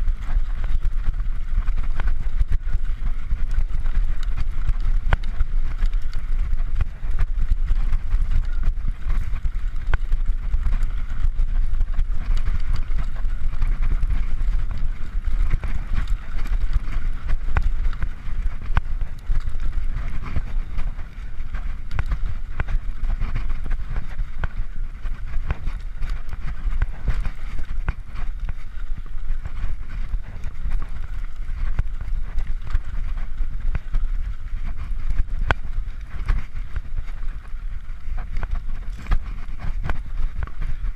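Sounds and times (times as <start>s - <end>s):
bike clicks and rattles: 0.0s - 40.9s
wind buffeting microphone: 0.0s - 40.9s.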